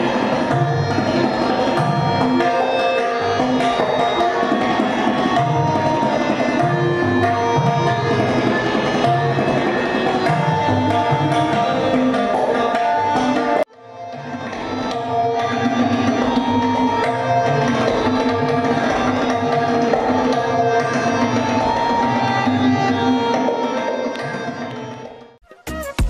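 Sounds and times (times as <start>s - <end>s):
harmonium sustained notes: 0.0s - 25.7s
tabla drumming: 0.0s - 26.0s.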